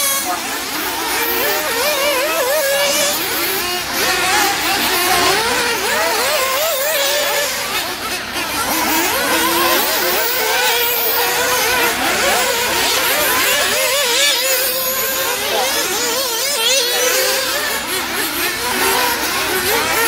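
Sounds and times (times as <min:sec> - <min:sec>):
small engines buzzing: 0:00.0 - 0:20.0.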